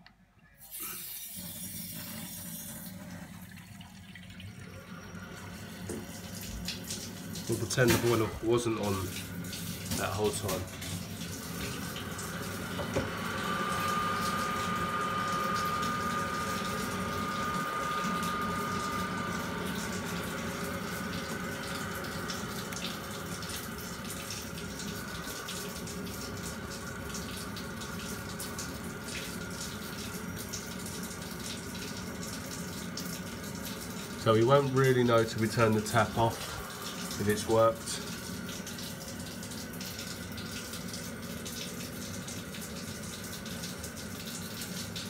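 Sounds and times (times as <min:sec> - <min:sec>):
water rushing through pipes: 0:00.6 - 0:45.0.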